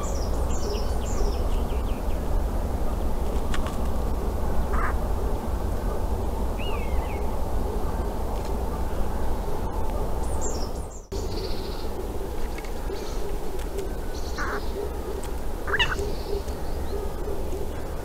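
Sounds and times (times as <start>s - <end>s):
bird calls: 0.0s - 18.0s
low background rumble: 0.0s - 18.0s.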